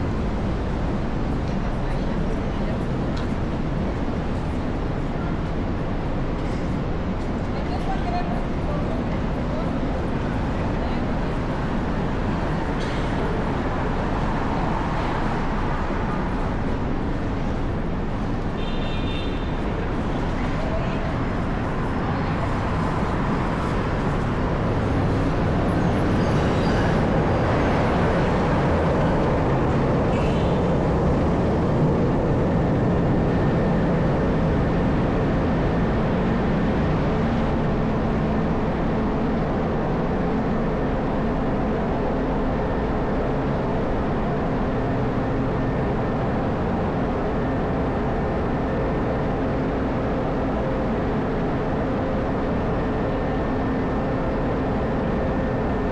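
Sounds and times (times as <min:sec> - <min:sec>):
street and rail traffic rumble: 0:00.0 - 0:55.9.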